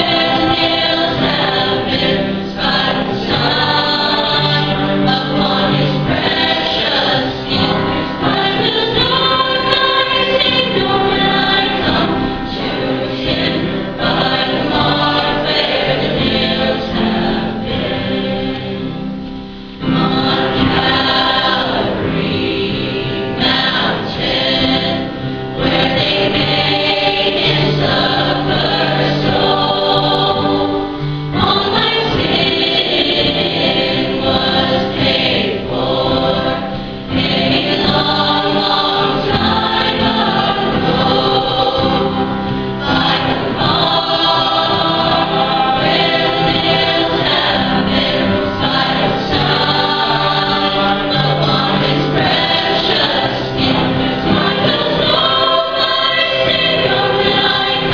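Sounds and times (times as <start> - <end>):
choir singing a hymn: 0.0 - 57.9.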